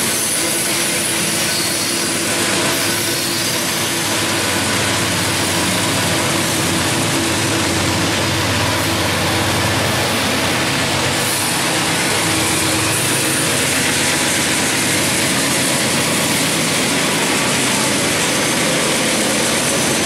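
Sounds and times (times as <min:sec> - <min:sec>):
blower and wheel noise: 0:00.0 - 0:20.0
locomotive engines running: 0:00.0 - 0:20.0.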